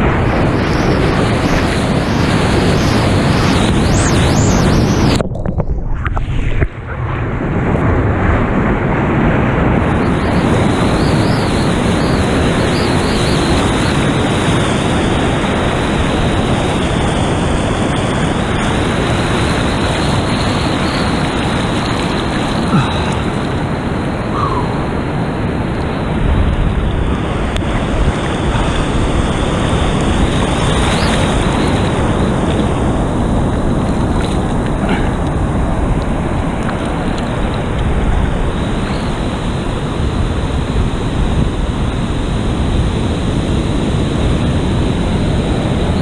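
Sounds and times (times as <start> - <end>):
surf breaking: 0.0 - 46.0
wind buffeting microphone: 0.0 - 46.0.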